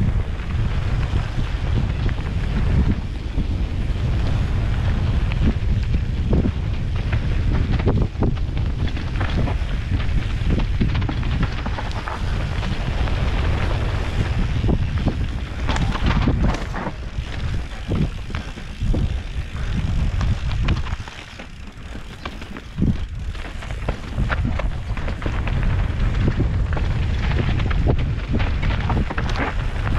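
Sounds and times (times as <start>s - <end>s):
bike rattling on rough dirt: 0.0s - 29.9s
wind buffeting microphone: 0.0s - 29.9s.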